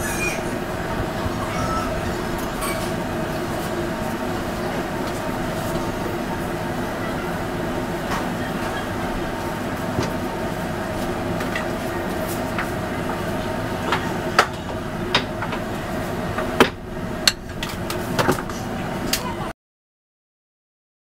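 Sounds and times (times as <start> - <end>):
steady mechanical hum: 0.0 - 19.5.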